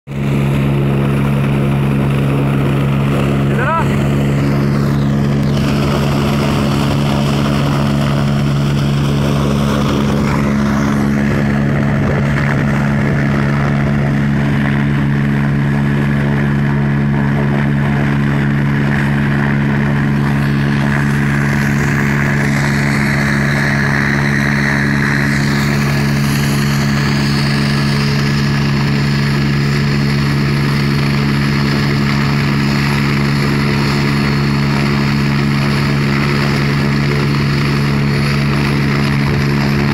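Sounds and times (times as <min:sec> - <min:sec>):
helicopter idling: 0:00.1 - 0:39.9.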